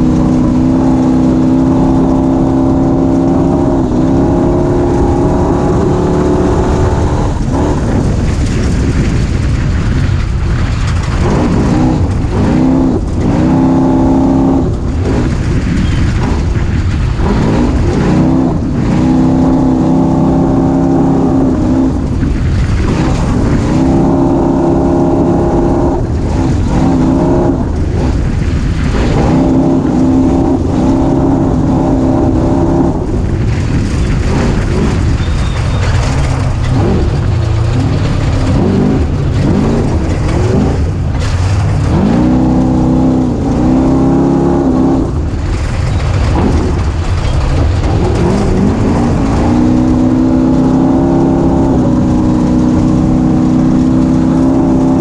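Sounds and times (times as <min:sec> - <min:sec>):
race vehicle engine revving: 0:00.0 - 0:55.0.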